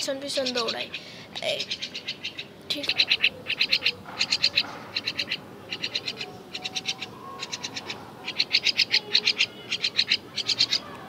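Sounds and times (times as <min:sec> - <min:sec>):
bird chick calling harshly: 0:00.4 - 0:11.0.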